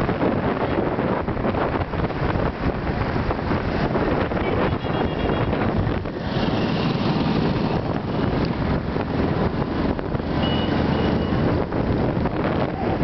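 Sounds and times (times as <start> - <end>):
road and vehicle noise: 0.0 - 13.0
wind buffeting microphone: 0.0 - 13.0.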